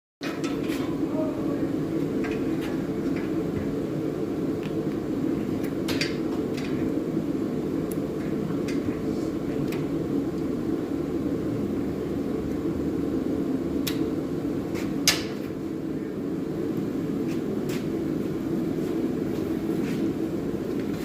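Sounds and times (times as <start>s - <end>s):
forge fire roaring: 0.2s - 21.0s.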